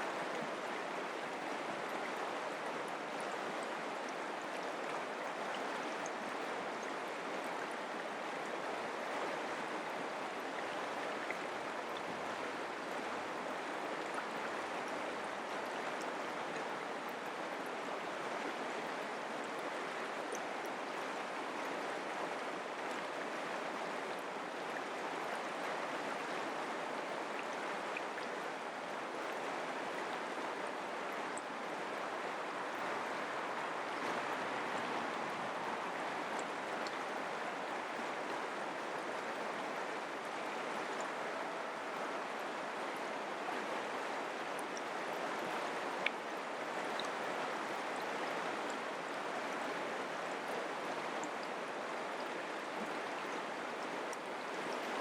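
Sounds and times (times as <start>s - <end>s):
creek water running: 0.0s - 55.0s.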